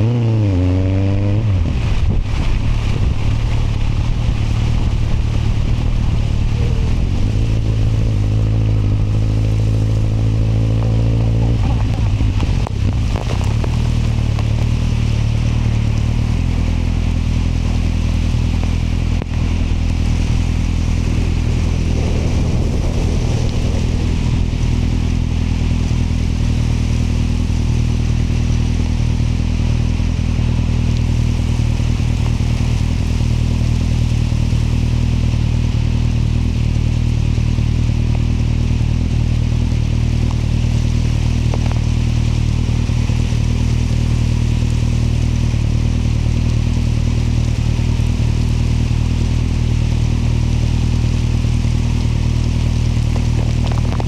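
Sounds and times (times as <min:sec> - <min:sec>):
motorcycle engine cruising: 0:00.0 - 0:54.0
riding noise hiss: 0:01.4 - 0:54.0.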